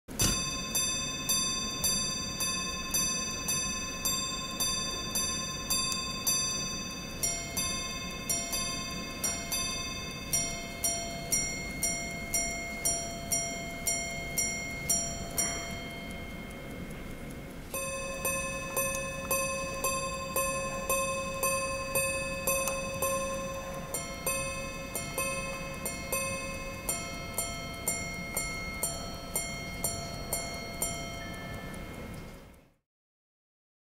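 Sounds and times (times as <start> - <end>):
wristwatch striking gongs: 0.1 - 32.2.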